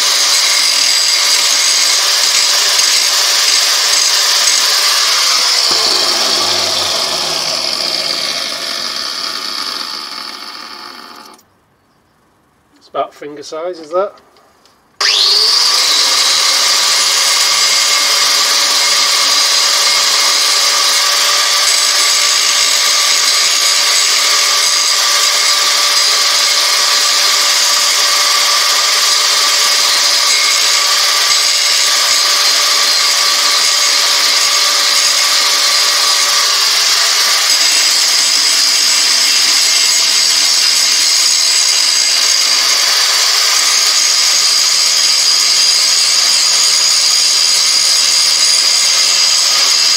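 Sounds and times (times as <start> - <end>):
angle grinder grinding steel: 0.0 - 11.4, 15.0 - 49.9.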